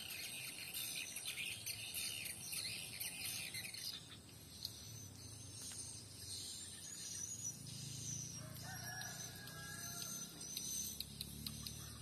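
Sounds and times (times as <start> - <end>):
drawn-out bird call: 0.0 - 12.0.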